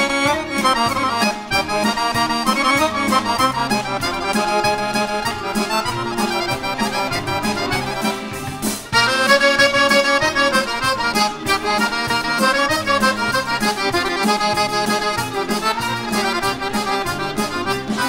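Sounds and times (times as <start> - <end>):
accordion melody: 0.0 - 18.0
folk orchestra playing: 0.0 - 18.0.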